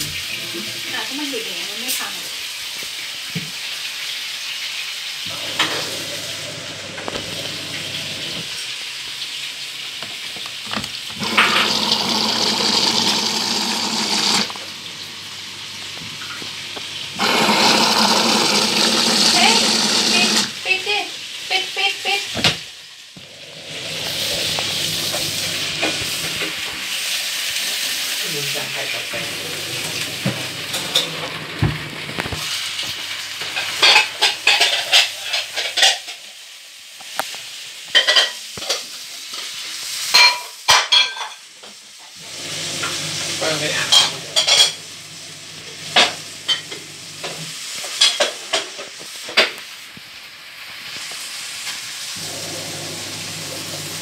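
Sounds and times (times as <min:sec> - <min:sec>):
water hissing into washing machine: 0:00.0 - 0:54.0.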